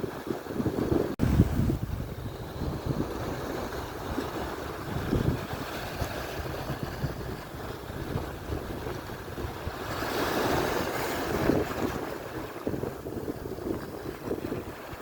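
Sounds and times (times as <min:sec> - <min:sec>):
surf washing onto shore: 0:00.0 - 0:15.0
wind buffeting microphone: 0:00.0 - 0:15.0.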